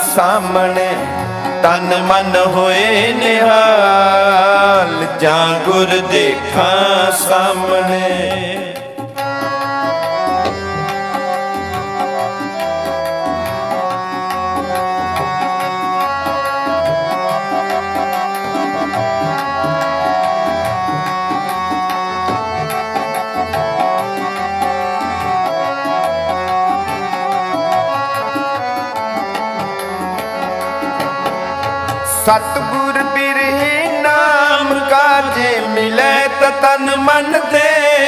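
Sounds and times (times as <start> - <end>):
harmoniums playing held notes: 0.0 - 38.0.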